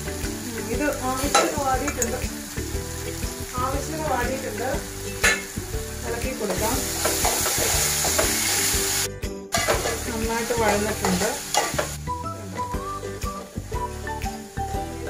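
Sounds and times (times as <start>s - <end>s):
onions sizzling in a pot: 0.0s - 15.0s.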